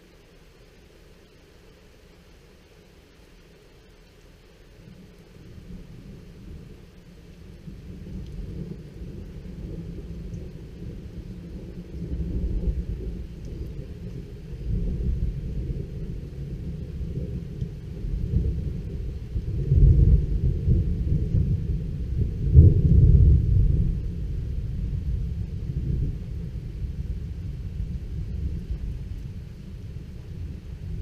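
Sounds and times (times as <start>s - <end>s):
thunder rumbling: 5.1s - 31.0s.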